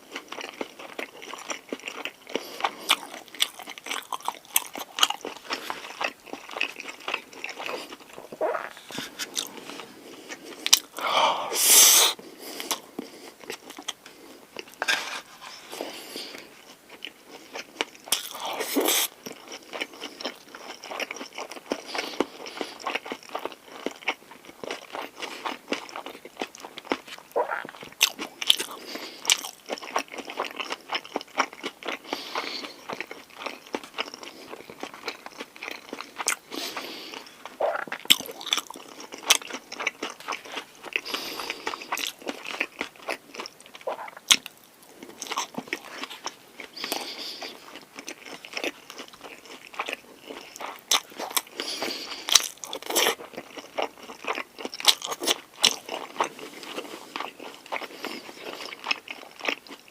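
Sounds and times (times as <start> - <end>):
chewing and crunching: 0.0 - 11.1, 12.1 - 59.9.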